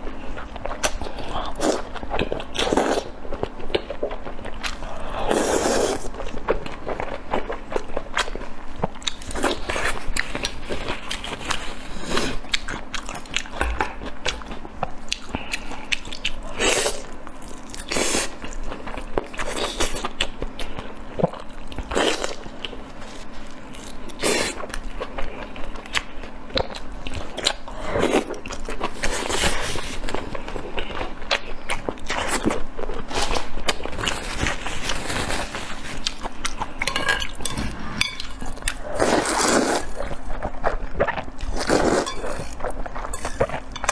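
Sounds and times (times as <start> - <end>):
person chewing food: 0.2 - 43.9.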